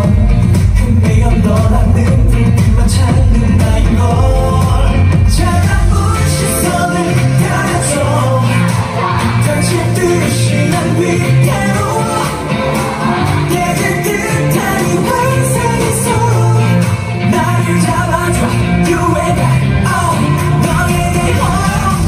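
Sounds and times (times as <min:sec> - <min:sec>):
heavy bass: 0:00.0 - 0:22.0
live pop song with male vocals: 0:00.0 - 0:22.0.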